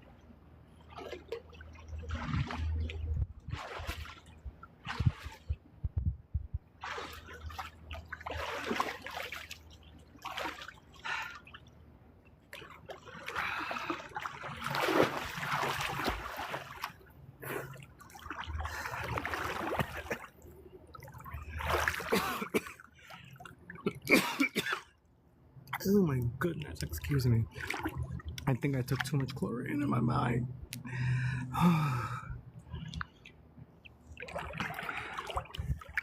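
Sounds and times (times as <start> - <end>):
pool water splashing: 0.0 - 5.6, 6.7 - 24.9, 25.5 - 36.0.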